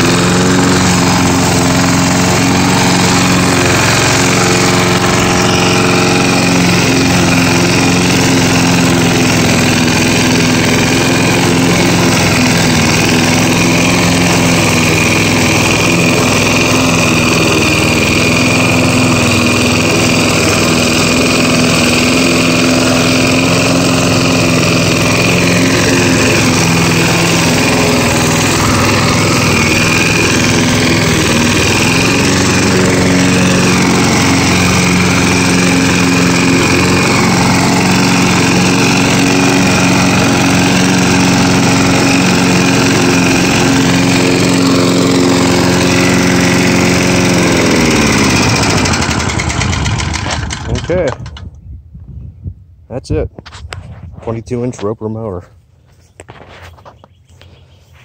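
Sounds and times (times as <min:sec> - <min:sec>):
push mower engine cutting grass: 0:00.0 - 0:51.5, 0:53.0 - 0:58.0.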